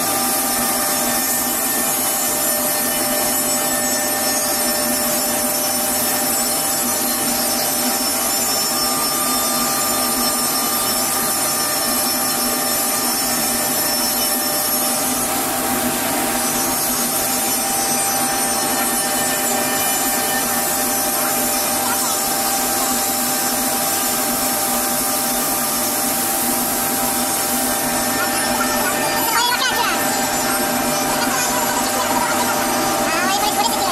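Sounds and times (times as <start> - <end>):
machine spindle whine: 0.0 - 33.9.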